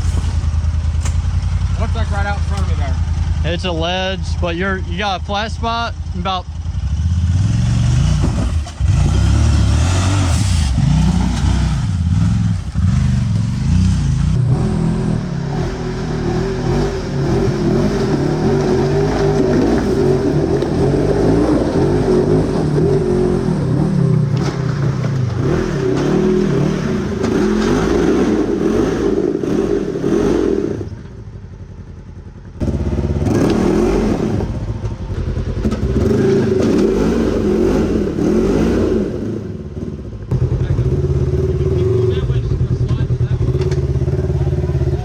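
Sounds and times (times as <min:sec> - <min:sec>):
utility vehicle engine revving: 0:00.0 - 0:45.0.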